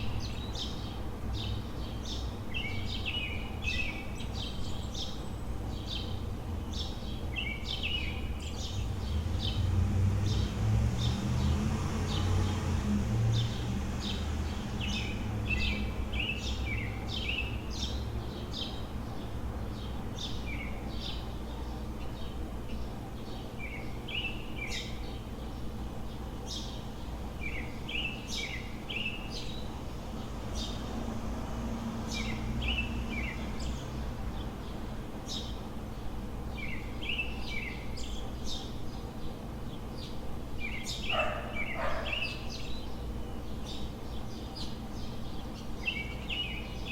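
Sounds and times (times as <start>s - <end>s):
city traffic hum: 0.0s - 46.9s
small birds chirping: 0.0s - 46.9s.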